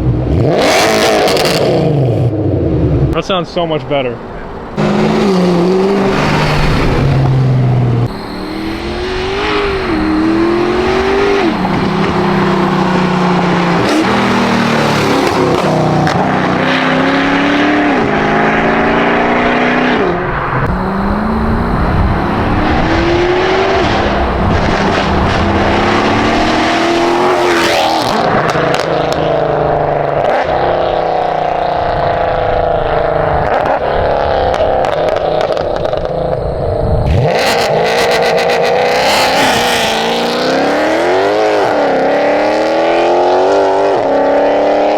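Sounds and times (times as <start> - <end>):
car engine accelerating hard: 0.0 - 3.3, 4.2 - 44.9.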